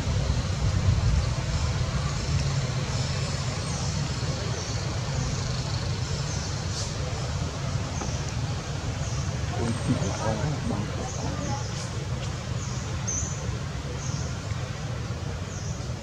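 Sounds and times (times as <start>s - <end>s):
faint hiss: 0.0s - 16.0s
low outdoor rumble: 0.0s - 16.0s.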